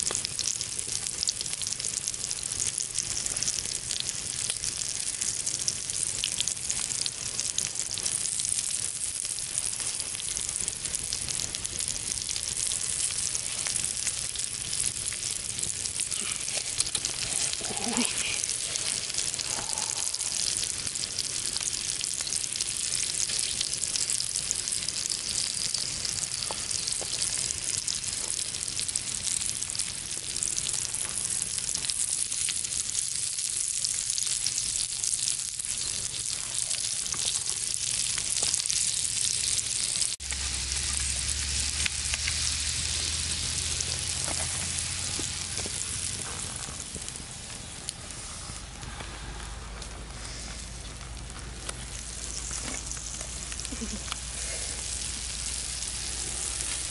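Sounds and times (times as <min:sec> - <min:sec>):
sausages sizzling: 0:00.0 - 0:56.9.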